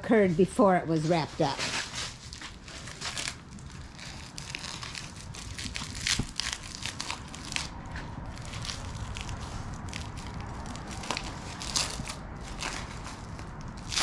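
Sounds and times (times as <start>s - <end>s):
packing wrap crinkling: 1.2s - 14.0s.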